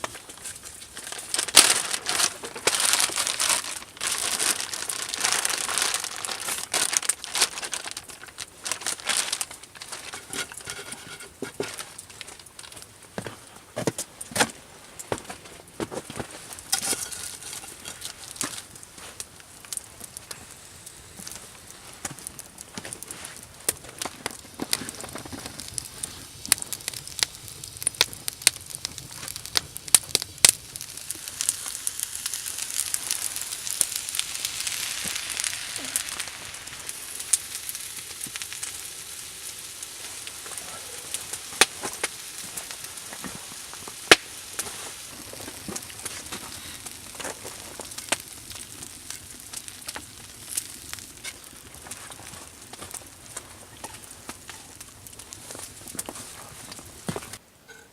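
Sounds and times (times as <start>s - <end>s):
fire hissing: 0.0s - 13.0s, 16.2s - 57.4s
campfire crackling: 0.0s - 57.6s
burning wood popping: 0.0s - 57.8s.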